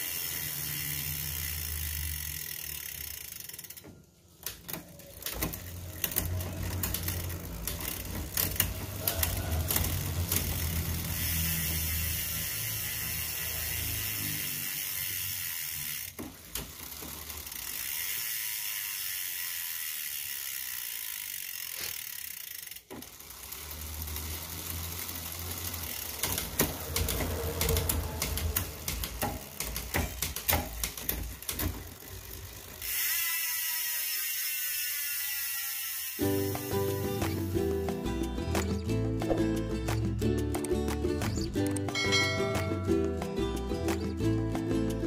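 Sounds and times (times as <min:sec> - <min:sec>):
bicycle chain hissing: 0:00.0 - 0:38.2
freehub pawls clicking: 0:00.0 - 0:38.9.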